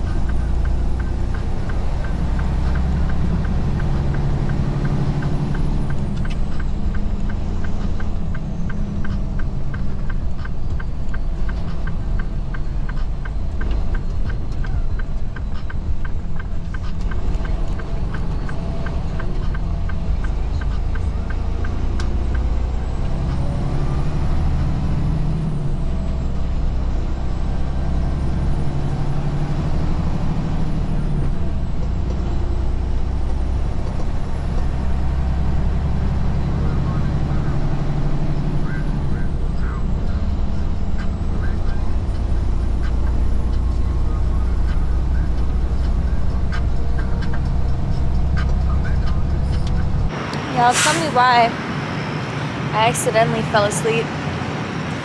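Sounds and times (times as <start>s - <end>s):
truck diesel engine: 0.0s - 55.0s.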